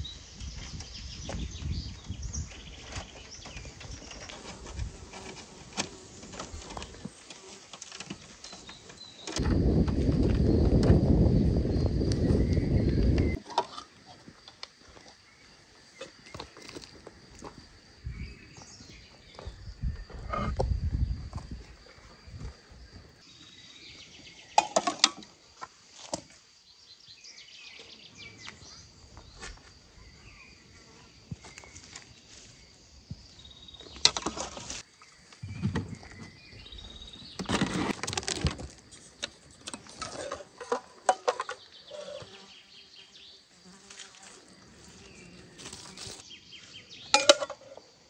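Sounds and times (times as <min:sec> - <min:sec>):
insects buzzing: 0:00.0 - 0:48.0.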